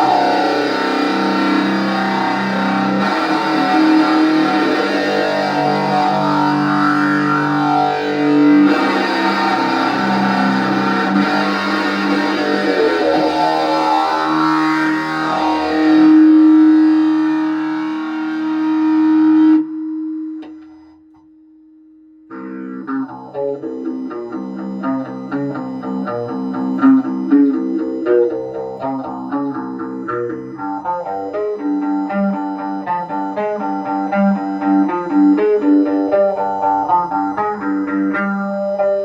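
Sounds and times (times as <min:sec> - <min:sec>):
distorted electric guitar riff: 0:00.0 - 0:39.0
single picked guitar notes: 0:00.0 - 0:39.0.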